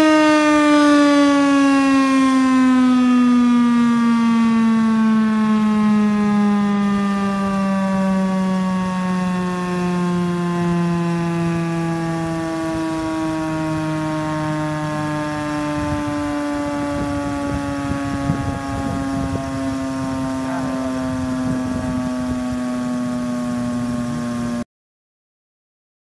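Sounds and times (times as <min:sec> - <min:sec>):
warning siren steady tone: 0:00.0 - 0:24.7.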